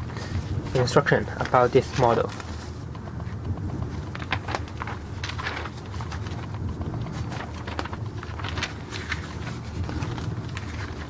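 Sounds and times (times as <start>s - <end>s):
paper pages rustling: 0.0s - 11.0s
steady low hum: 0.0s - 11.0s.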